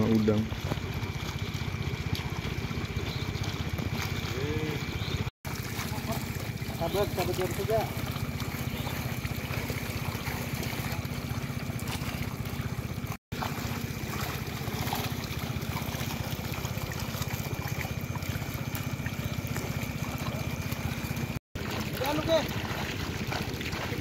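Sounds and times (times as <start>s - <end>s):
small engine running: 0.0s - 24.0s
water trickling: 0.0s - 24.0s.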